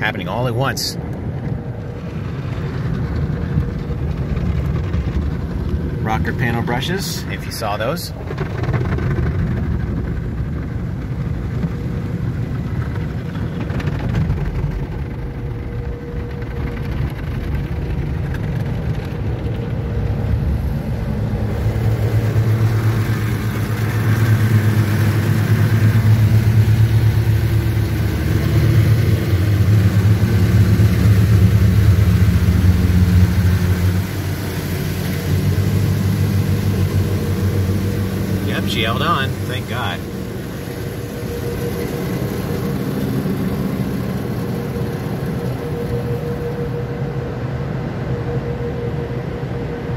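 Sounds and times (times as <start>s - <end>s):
machine hum: 0.0s - 49.9s
water spraying on car: 1.2s - 47.1s.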